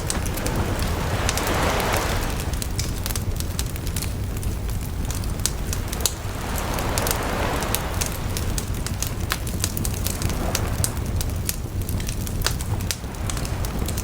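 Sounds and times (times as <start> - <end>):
bonfire crackling: 0.0 - 14.0
soft hiss: 0.0 - 14.0
steady low rumble: 0.0 - 14.0.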